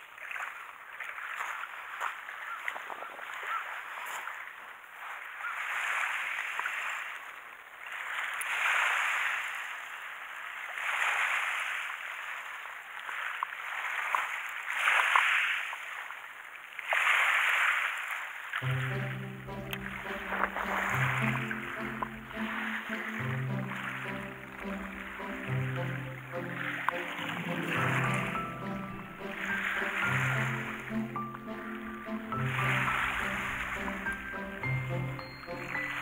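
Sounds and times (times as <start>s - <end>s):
small waves splashing: 0.0s - 36.0s.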